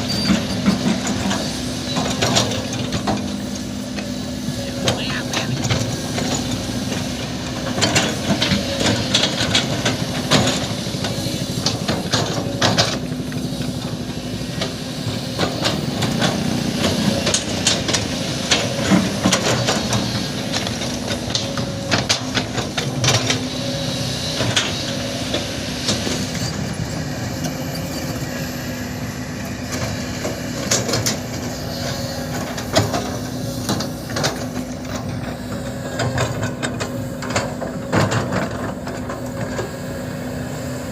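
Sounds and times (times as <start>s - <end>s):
heavy construction machinery running: 0.0s - 40.9s.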